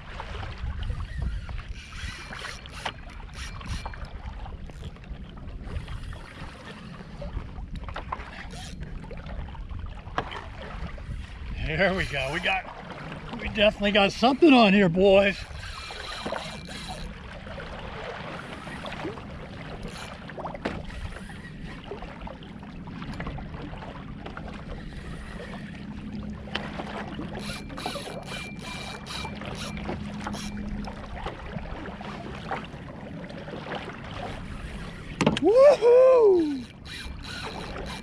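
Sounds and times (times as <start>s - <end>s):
water sloshing around kayak: 0.0s - 38.0s.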